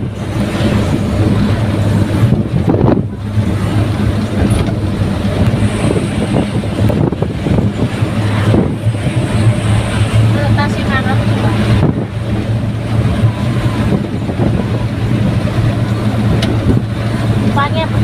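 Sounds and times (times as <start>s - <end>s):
engine drone: 0.0s - 18.0s
road and wind noise: 0.0s - 18.0s.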